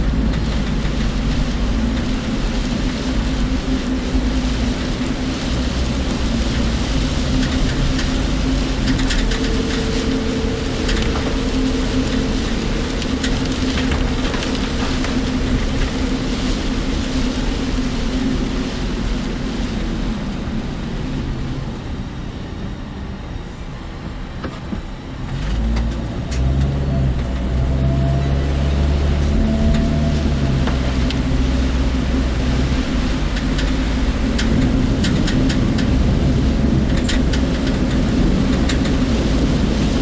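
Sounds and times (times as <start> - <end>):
deep steady hum: 0.0 - 40.0
rain and road noise inside car: 0.0 - 40.0
wind: 0.0 - 40.0.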